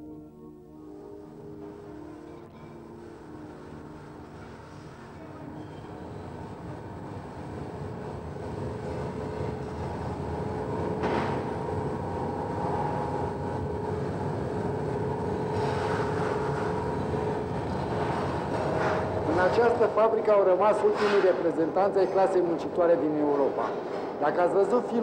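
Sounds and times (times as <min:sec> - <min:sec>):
factory machinery noise: 0:01.6 - 0:25.0.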